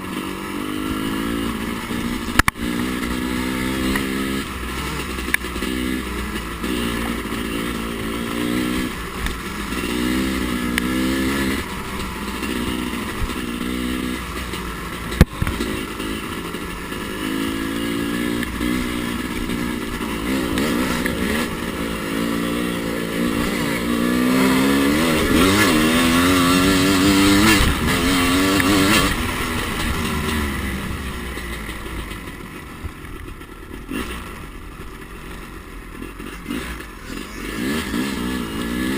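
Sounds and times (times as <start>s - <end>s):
dirt bike engine revving: 0.0s - 32.4s, 33.0s - 35.0s, 35.9s - 38.9s.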